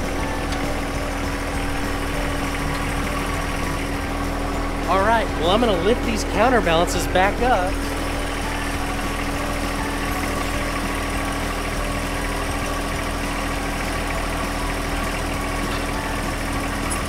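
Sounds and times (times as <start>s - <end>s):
diesel engine running: 0.0s - 17.0s
steady high tone: 0.0s - 17.0s.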